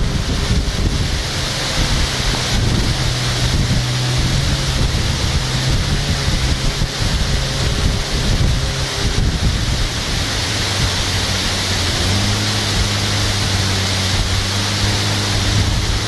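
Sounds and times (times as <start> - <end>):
low steady hum: 0.0 - 16.0
wind buffeting microphone: 0.0 - 16.0.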